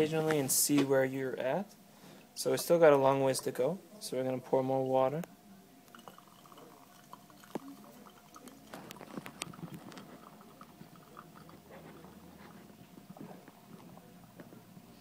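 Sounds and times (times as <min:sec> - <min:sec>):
water trickling onto coffee grounds: 0:02.3 - 0:15.0.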